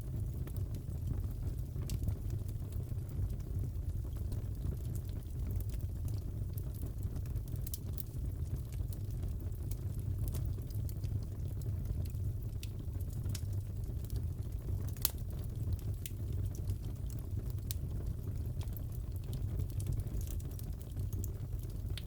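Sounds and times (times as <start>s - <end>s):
fireplace crackling and popping: 0.0s - 22.0s.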